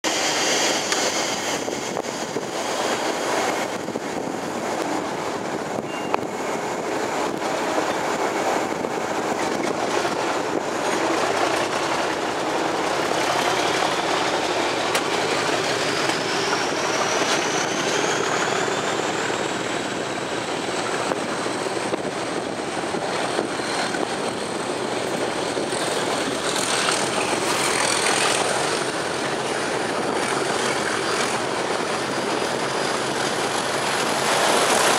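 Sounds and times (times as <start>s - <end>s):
diesel locomotive engine thrash: 0.0s - 34.9s.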